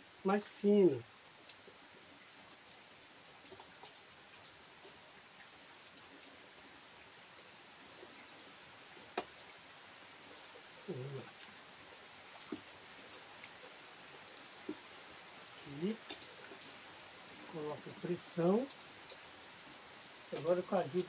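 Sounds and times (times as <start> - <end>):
rain with drops ticking: 0.0 - 21.0.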